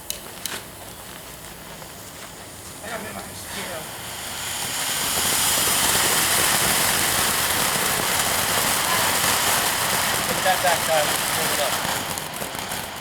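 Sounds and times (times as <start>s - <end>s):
fireworks hissing sparks: 0.0s - 13.0s.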